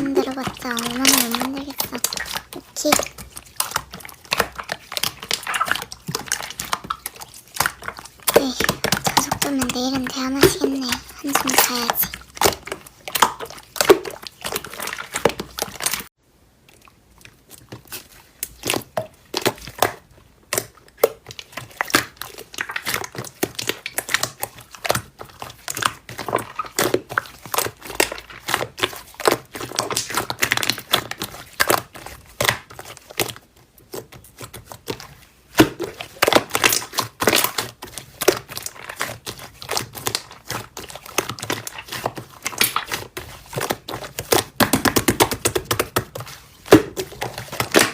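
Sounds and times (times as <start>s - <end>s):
slime squished by hand: 0.0s - 47.9s.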